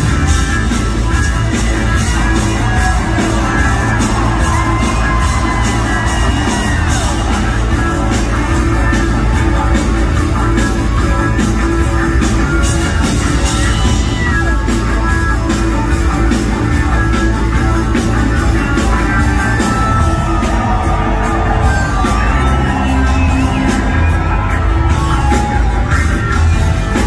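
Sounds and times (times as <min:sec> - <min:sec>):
live rock band playing: 0:00.0 - 0:27.0
steady drum beat: 0:00.0 - 0:27.0.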